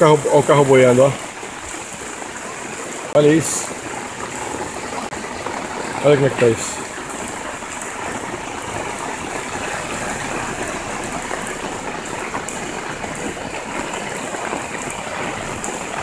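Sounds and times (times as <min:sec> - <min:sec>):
floodwater flowing: 0:00.0 - 0:16.0
heavy rain falling: 0:00.0 - 0:16.0.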